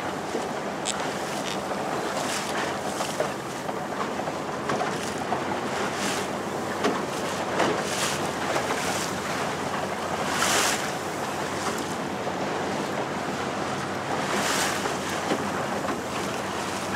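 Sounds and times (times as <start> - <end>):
boat motor humming: 0.0 - 16.9
water rushing along boat hull: 0.0 - 16.9.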